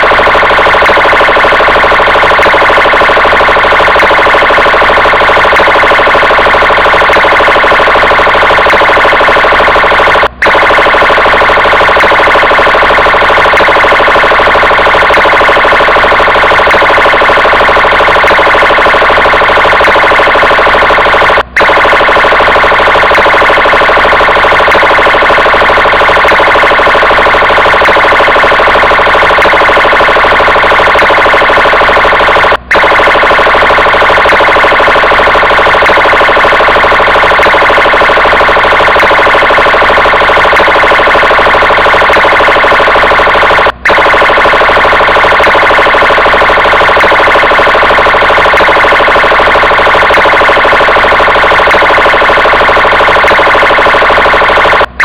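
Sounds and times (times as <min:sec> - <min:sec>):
police car siren: 0:00.0 - 0:55.0.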